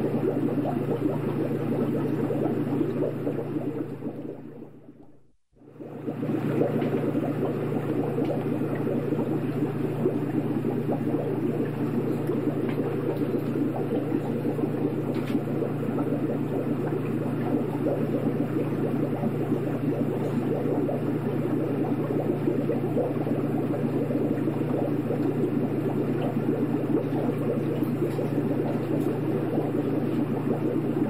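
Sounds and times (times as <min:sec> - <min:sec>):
aquarium water bubbling: 0:00.0 - 0:31.0
constant low hum: 0:00.0 - 0:31.0.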